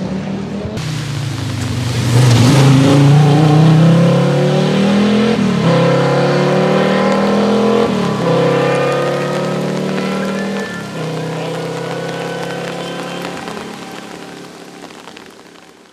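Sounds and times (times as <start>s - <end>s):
rally car engine accelerating: 0.0s - 15.5s.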